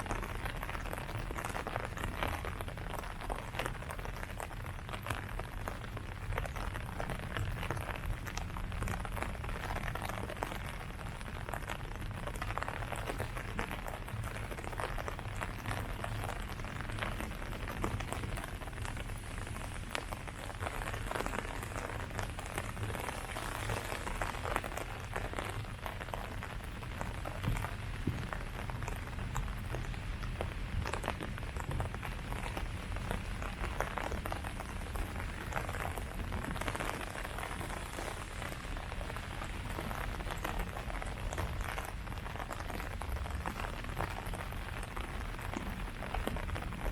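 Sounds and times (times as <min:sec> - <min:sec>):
rain pattering on leaves: 0:00.0 - 0:46.9.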